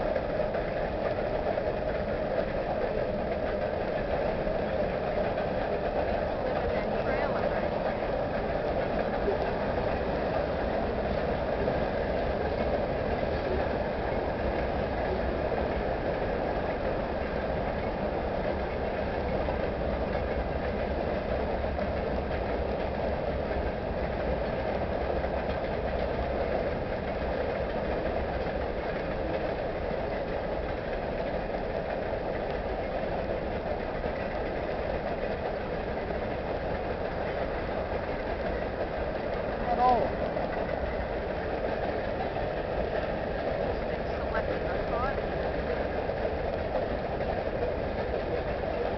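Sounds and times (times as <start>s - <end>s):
train wheels on rails: 0.0s - 48.9s.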